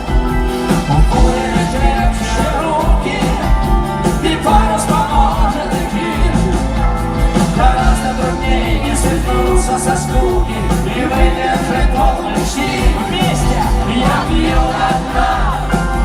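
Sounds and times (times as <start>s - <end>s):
rock band playing: 0.0s - 16.0s
person singing: 0.7s - 16.0s.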